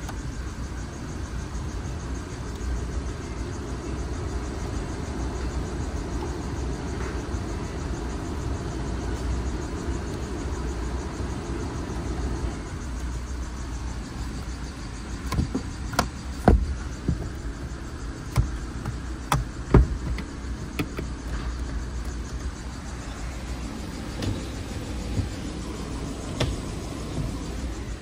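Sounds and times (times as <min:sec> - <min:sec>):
low cabin rumble: 0:00.0 - 0:28.0.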